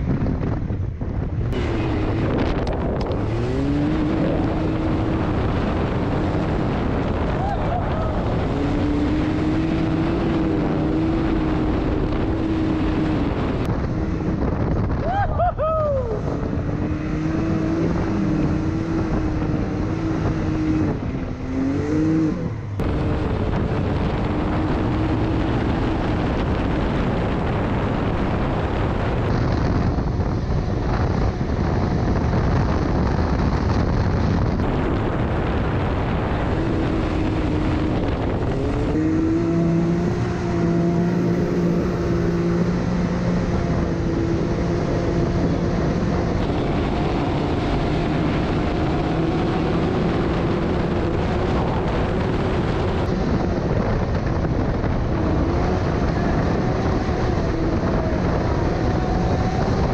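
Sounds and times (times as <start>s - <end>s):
vehicle engine running: 0.0s - 15.0s, 15.9s - 59.9s
wind noise on microphone: 0.0s - 59.9s.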